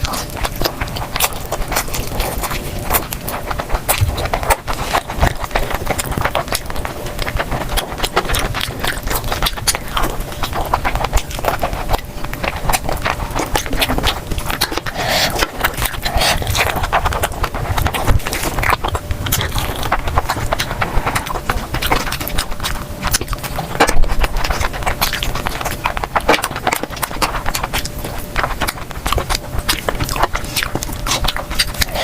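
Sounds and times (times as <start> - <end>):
chewing and mouth smacks: 0.0 - 32.0.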